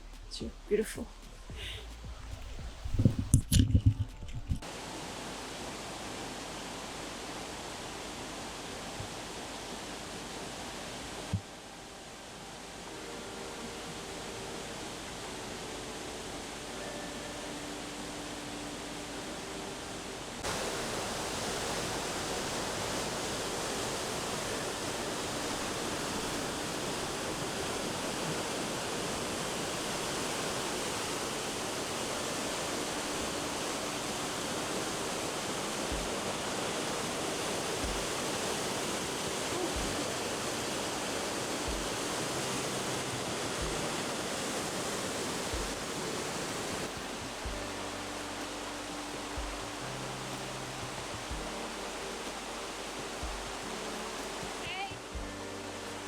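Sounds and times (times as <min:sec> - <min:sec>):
waterfall rushing: 0:04.6 - 0:56.0.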